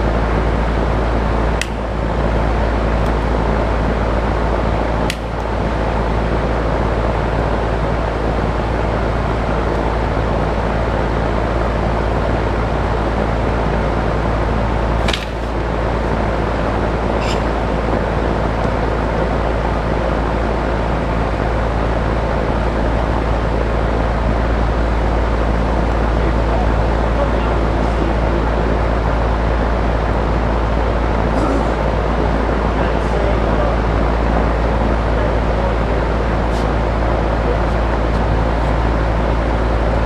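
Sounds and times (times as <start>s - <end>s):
loud fan noise with hum: 0.0s - 40.0s.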